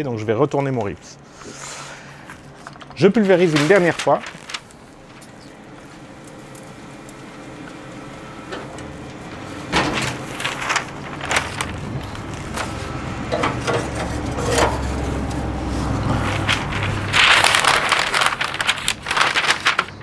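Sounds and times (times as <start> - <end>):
low steady hum: 2.0 - 20.0
paper rustling and crinkling: 2.2 - 20.0.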